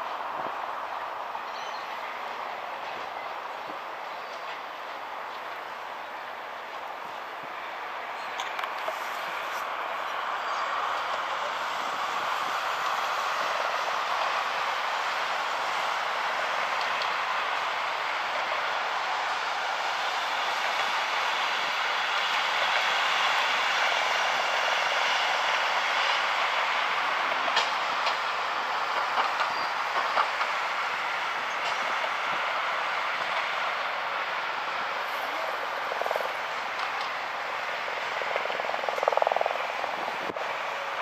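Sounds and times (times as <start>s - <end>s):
train rolling on rails: 0.0s - 41.0s.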